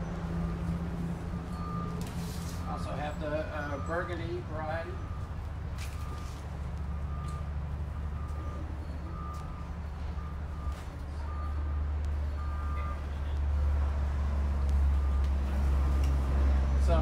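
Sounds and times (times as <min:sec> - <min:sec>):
reversing alarm beeping: 0:00.3 - 0:13.8, 0:14.5 - 0:16.1.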